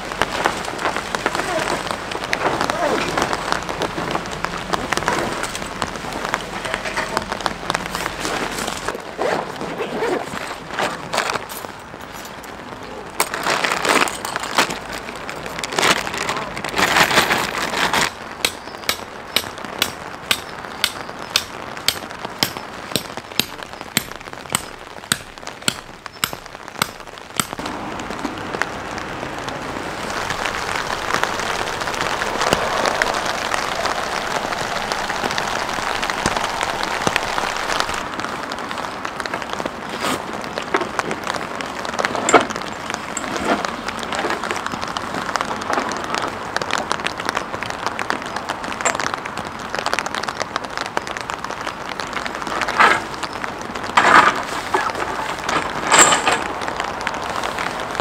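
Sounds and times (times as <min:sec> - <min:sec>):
rain pattering: 0:00.0 - 0:09.6, 0:10.3 - 0:58.0.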